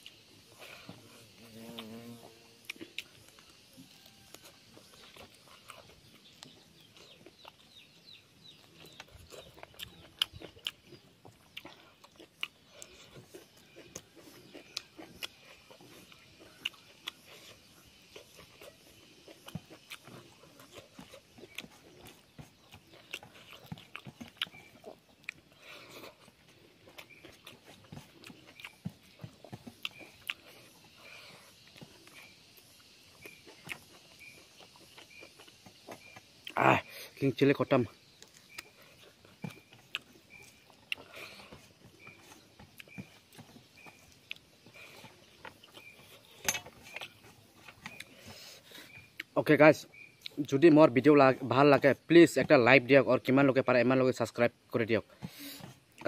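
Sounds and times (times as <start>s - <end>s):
person chewing with wet smacks: 0.0s - 36.6s, 38.0s - 50.6s, 55.1s - 56.0s.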